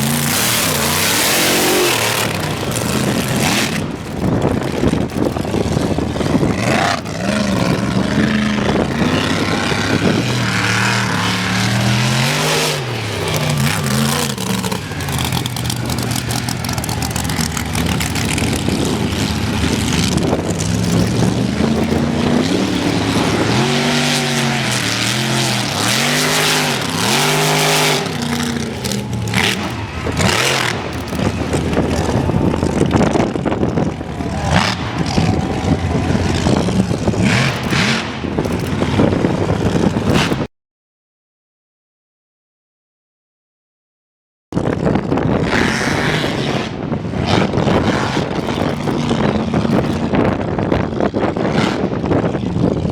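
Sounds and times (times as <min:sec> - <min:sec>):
constant rushing noise: 0:00.0 - 0:40.5, 0:44.6 - 0:52.9
truck engine revving: 0:00.0 - 0:40.5, 0:44.6 - 0:52.9.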